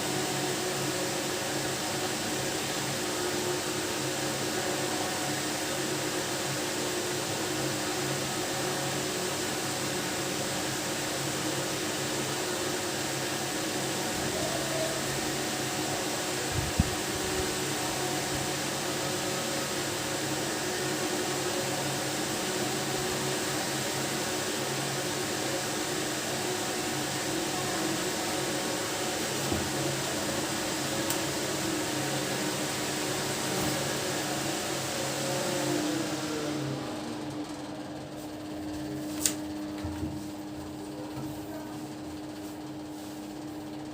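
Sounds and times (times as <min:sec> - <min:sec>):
machine hum and hiss: 0:00.0 - 0:43.9.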